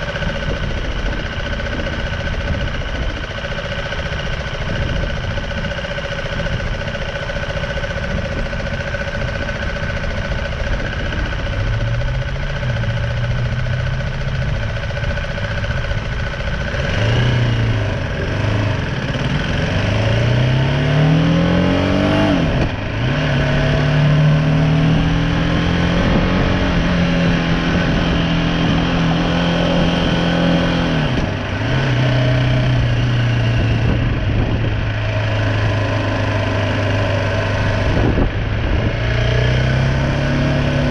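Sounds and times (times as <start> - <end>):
motorcycle engine revving through gears: 0.0 - 40.9
road and wind noise: 0.0 - 40.9.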